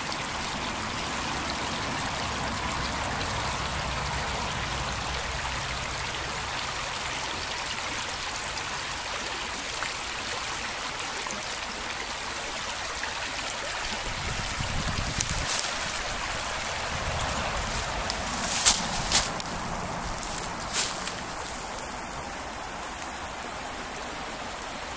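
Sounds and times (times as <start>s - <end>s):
brook flowing over rocks: 0.0s - 24.9s.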